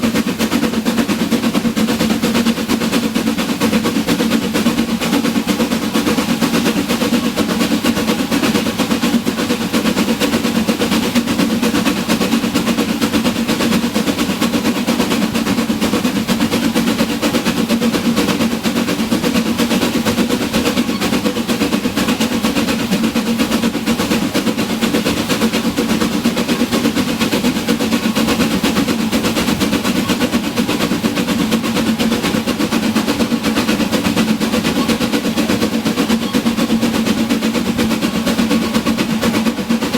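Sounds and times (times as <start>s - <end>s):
train rattling: 0.0s - 39.9s.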